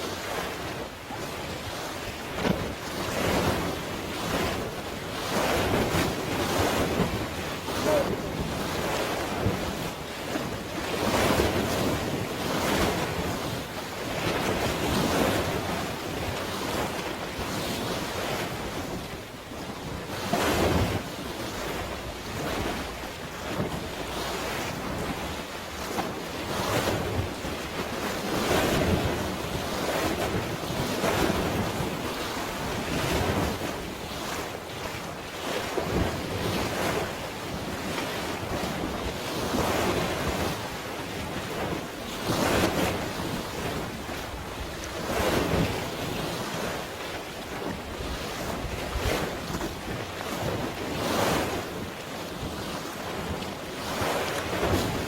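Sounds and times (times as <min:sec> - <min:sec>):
sea waves washing in: 0:00.0 - 0:55.0.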